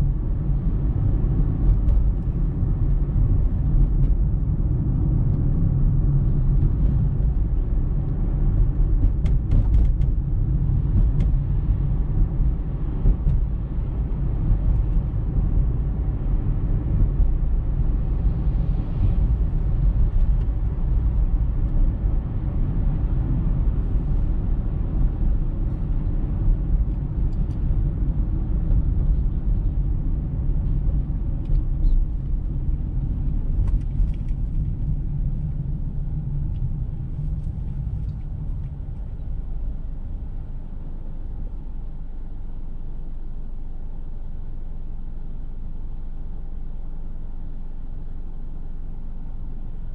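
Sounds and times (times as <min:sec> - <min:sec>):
car engine and tyre noise: 0:00.0 - 0:49.9.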